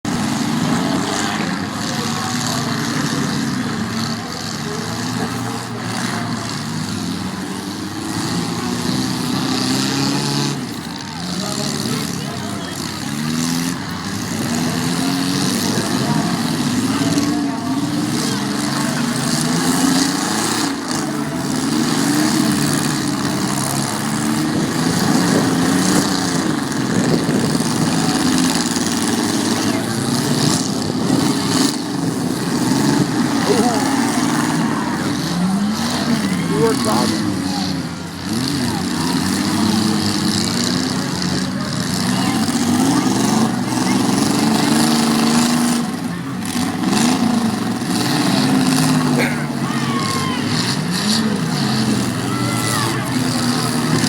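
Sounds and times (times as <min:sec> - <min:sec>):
demolition derby car engines running: 0:00.0 - 0:54.0.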